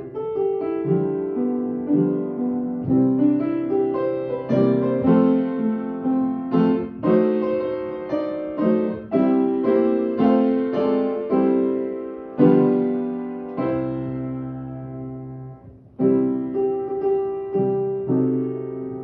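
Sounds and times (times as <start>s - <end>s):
piano playing slow chords: 0.0s - 19.0s.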